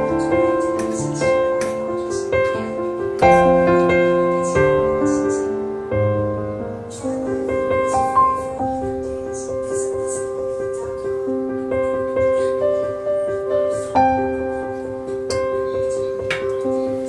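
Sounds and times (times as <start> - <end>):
slow instrumental melody: 0.0 - 17.0.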